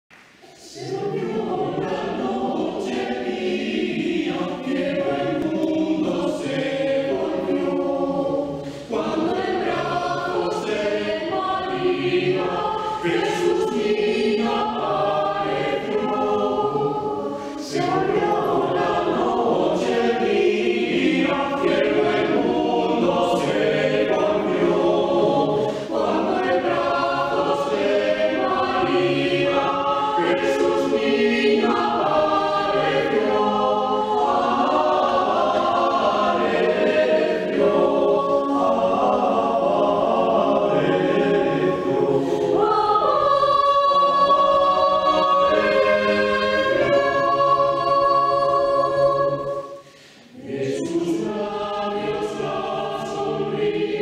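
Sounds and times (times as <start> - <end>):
mixed choir singing in harmony: 0.2 - 54.0.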